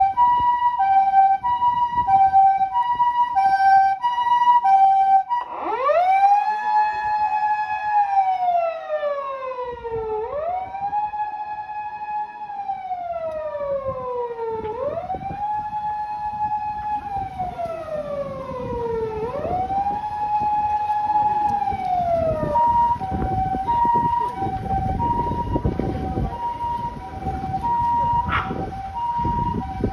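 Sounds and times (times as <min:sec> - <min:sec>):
ambulance siren: 0:00.0 - 0:29.9
engine and traffic rumble: 0:00.0 - 0:29.9.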